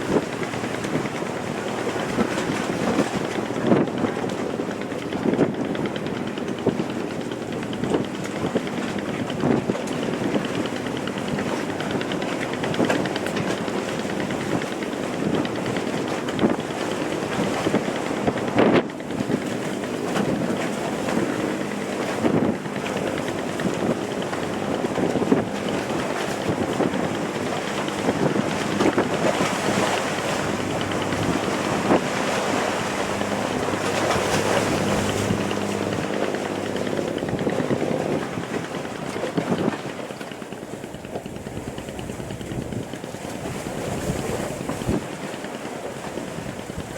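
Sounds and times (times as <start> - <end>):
water rushing: 0.0 - 9.2, 10.5 - 45.1
boat engine droning: 0.0 - 46.9
wind buffeting microphone: 0.0 - 46.9.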